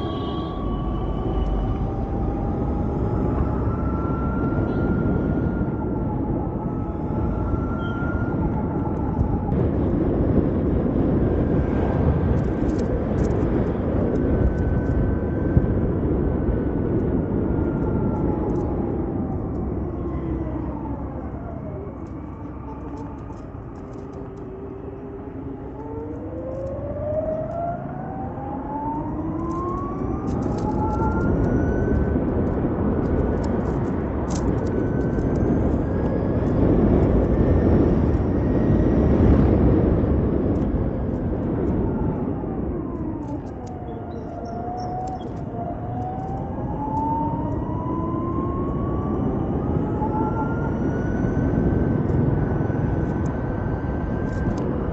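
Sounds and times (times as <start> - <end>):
electric scooter motor whine: 0.0 - 9.6, 11.0 - 54.9
wind rushing over microphone: 0.0 - 54.9.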